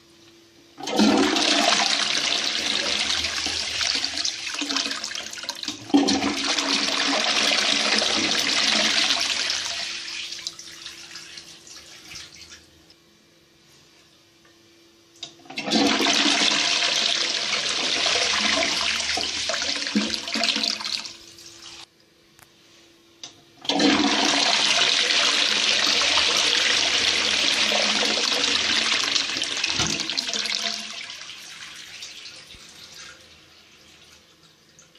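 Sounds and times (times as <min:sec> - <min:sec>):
toilet flushing: 0:00.8 - 0:12.7, 0:15.4 - 0:21.9, 0:23.6 - 0:34.9.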